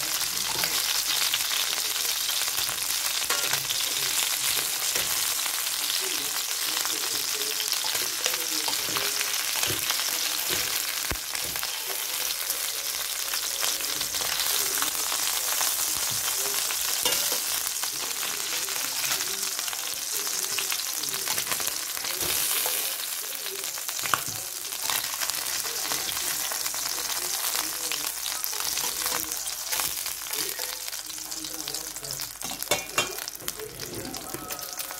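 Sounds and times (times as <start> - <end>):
chicken sizzling in frying pan: 0.0 - 34.9.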